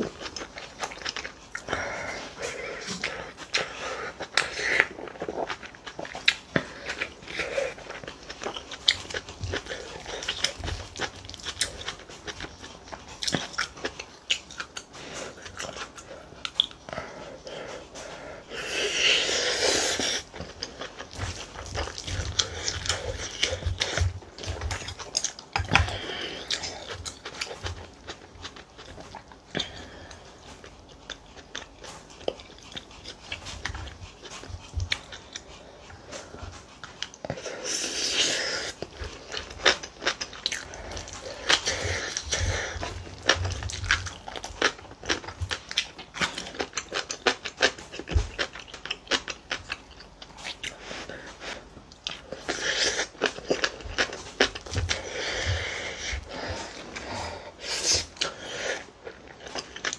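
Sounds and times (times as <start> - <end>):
person chewing and biting: 0.0 - 59.9.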